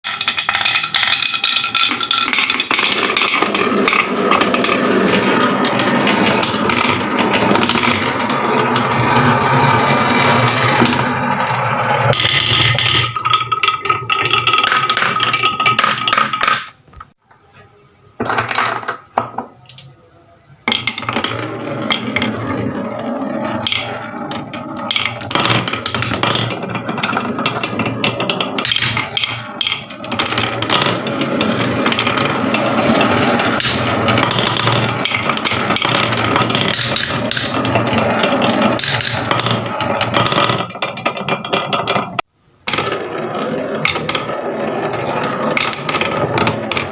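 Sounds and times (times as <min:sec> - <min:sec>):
marbles clattering down wooden run: 0:00.1 - 0:16.8, 0:20.7 - 0:46.9.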